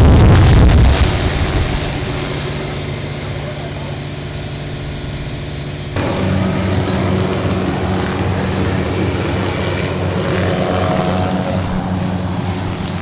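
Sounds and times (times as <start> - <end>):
noisy rush: 0.0 - 13.0
helicopter rotor and engine drone: 1.0 - 13.0.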